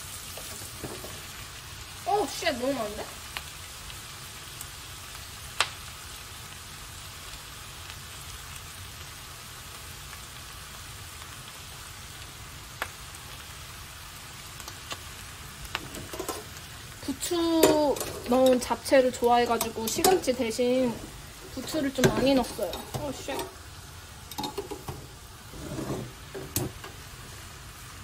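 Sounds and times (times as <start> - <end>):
noodles sizzling in a pan: 0.0 - 28.0.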